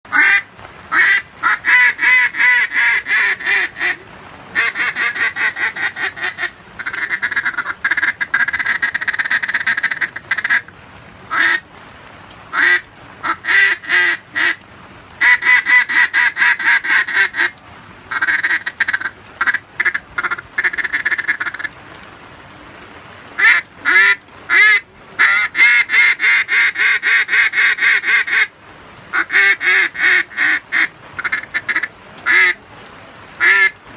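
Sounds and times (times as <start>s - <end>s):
duck call quacking: 0.1s - 4.0s, 4.6s - 10.7s, 11.3s - 11.6s, 12.5s - 14.6s, 15.2s - 21.7s, 23.4s - 28.5s, 29.1s - 32.6s, 33.4s - 33.8s
heavy rain hiss: 0.1s - 33.9s.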